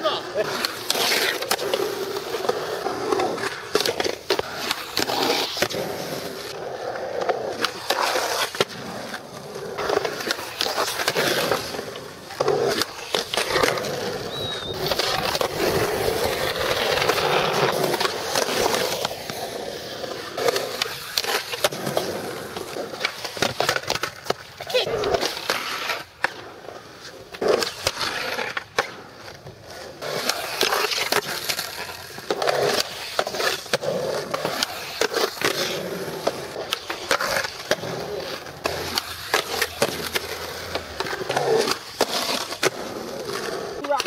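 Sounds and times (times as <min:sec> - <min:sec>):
skateboard wheels rolling on concrete: 0:00.0 - 0:44.0
skateboard clacks: 0:00.2 - 0:44.0.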